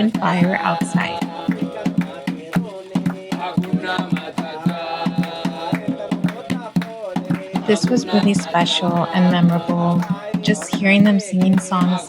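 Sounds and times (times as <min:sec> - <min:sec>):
repeated drum beat: 0:00.0 - 0:12.0
voices singing: 0:00.0 - 0:12.0.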